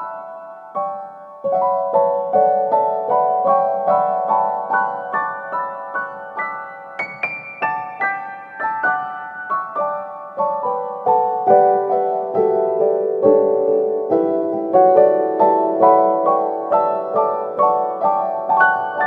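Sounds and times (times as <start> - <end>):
gentle solo piano melody: 0.0 - 19.0.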